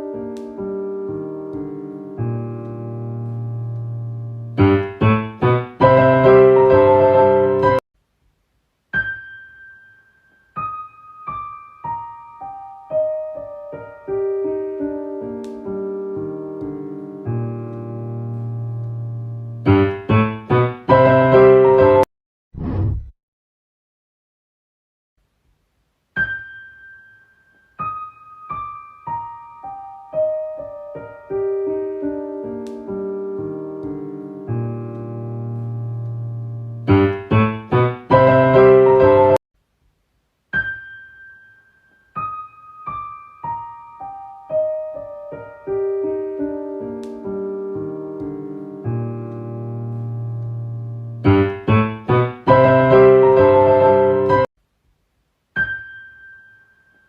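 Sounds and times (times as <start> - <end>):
solo piano music: 0.0 - 7.8, 8.9 - 22.1, 26.1 - 39.4, 40.5 - 54.5, 55.5 - 57.0.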